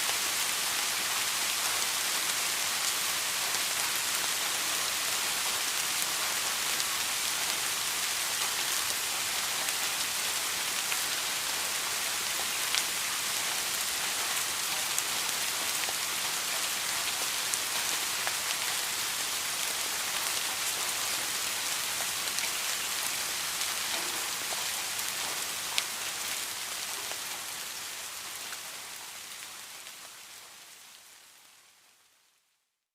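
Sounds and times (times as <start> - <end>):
steady rain hiss: 0.0 - 32.8.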